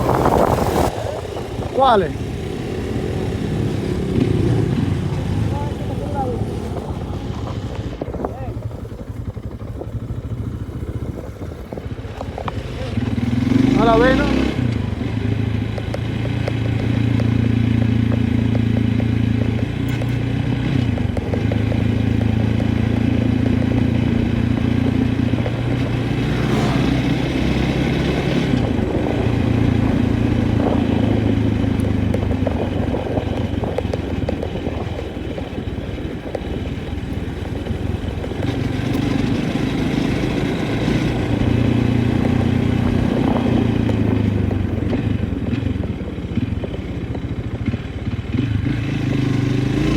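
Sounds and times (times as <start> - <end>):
engine running: 0.0 - 49.9.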